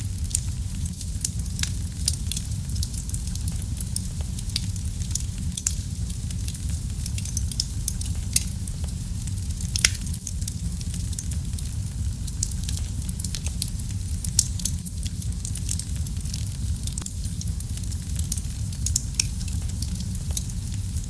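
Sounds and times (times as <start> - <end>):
low rumble of fire flames: 0.0 - 21.0
wood fire crackling and popping: 0.0 - 21.0.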